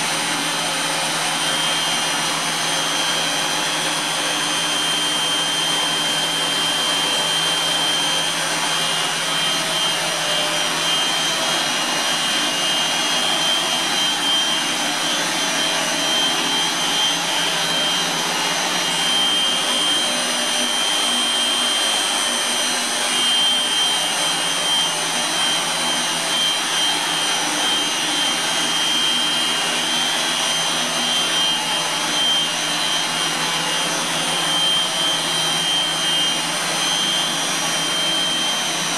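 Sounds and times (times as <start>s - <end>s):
high whining tones: 0.8s - 38.9s.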